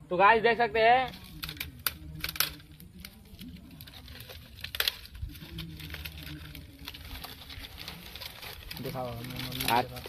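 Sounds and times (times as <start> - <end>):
straw crackling as it burns: 0.0 - 10.0
dry straw rustling: 1.0 - 10.0.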